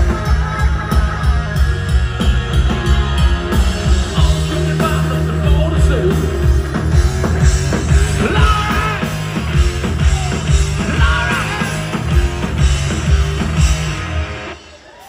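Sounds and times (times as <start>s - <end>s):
drums: 0.0s - 15.0s
electric guitar: 0.0s - 15.0s
rock band playing: 0.0s - 15.0s.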